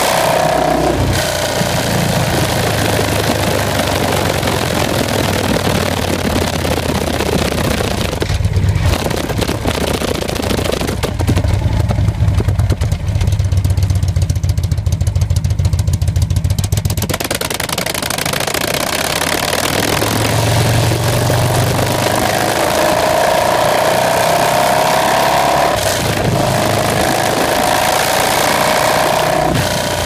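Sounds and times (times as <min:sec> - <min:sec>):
motorcycle exhaust revving hard: 0:00.0 - 0:30.0.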